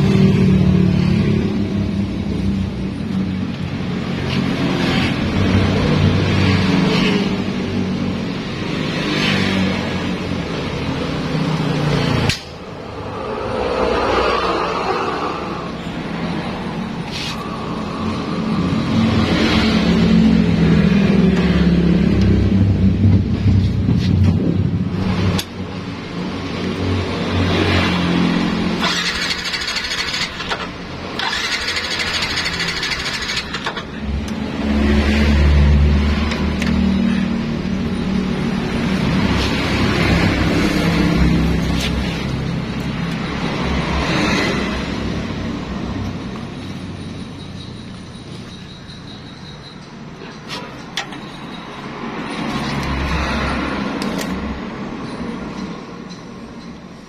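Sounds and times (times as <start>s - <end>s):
vehicle engine: 0.0s - 57.0s.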